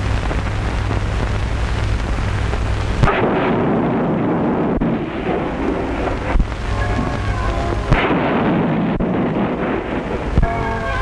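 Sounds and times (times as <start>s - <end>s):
explosion blast and rumble: 0.0s - 11.0s
film soundtrack hum and hiss: 0.0s - 11.0s.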